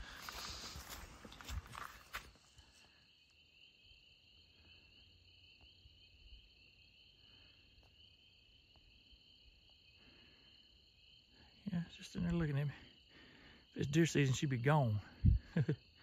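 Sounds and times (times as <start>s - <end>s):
insect chorus trilling: 0.0s - 16.0s.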